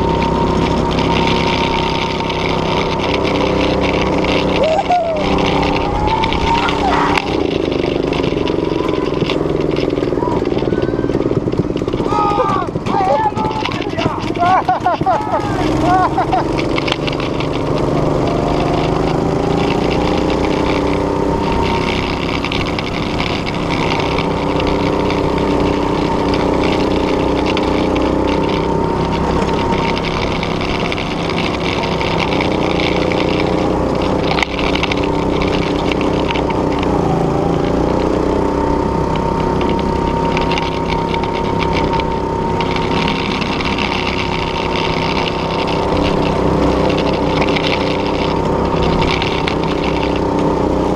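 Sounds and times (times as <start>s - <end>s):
go-kart engine running: 0.0s - 50.9s.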